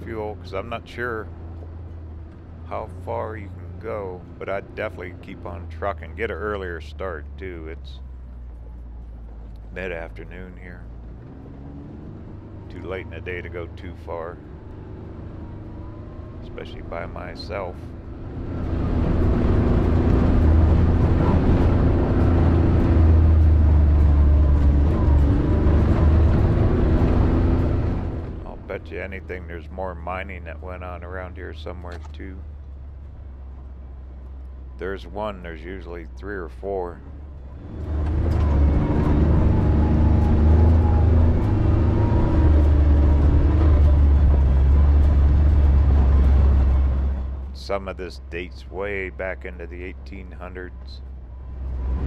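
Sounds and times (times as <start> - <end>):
vehicle rumbling on dirt road: 0.0 - 52.0.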